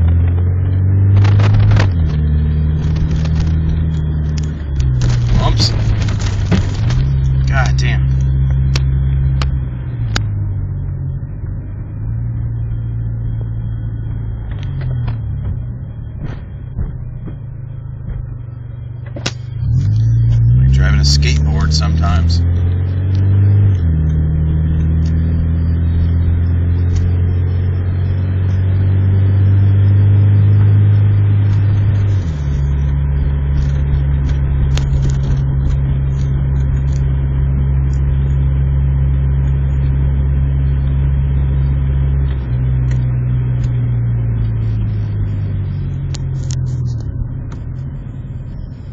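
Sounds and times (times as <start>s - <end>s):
car engine drone from inside: 0.0s - 48.9s.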